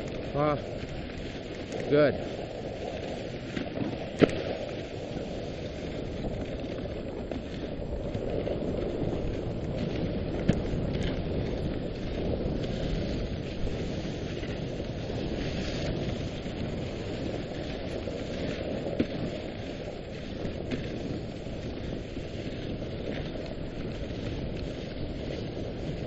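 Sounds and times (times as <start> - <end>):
sled runners sliding on snow: 0.0 - 26.0.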